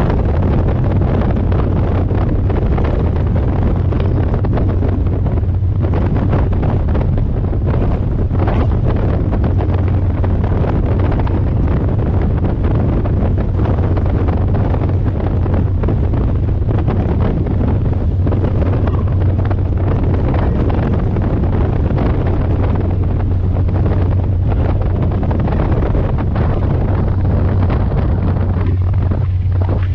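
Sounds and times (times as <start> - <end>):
boat engine hum: 0.0 - 29.9
wind buffeting microphone: 0.0 - 29.9.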